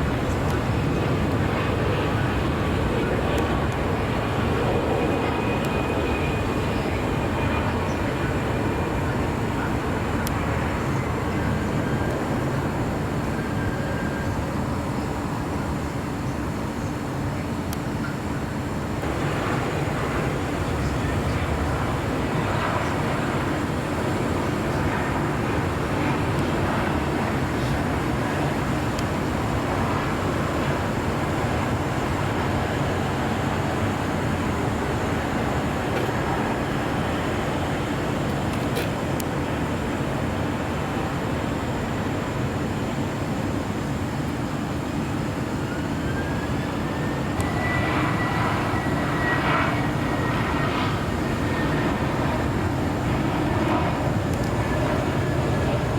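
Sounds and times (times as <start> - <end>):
jet engine whine: 0.0 - 55.9
jet engines rumbling: 0.0 - 55.9.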